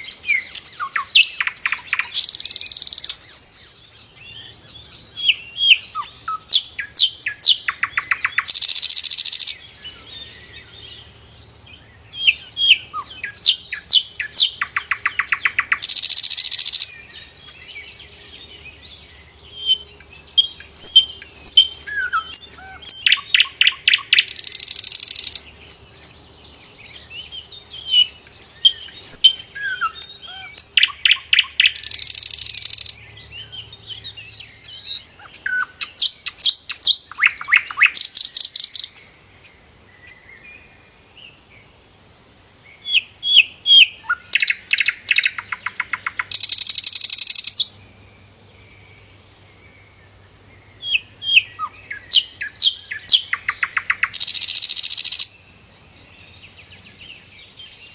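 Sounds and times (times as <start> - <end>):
bird chirps and buzzy trills: 0.0 - 57.9.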